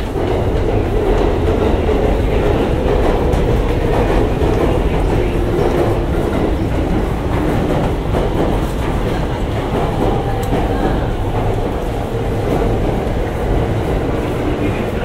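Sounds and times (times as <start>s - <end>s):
rail clatter: 0.0s - 15.0s
train wheels and motors rumbling: 0.0s - 15.0s.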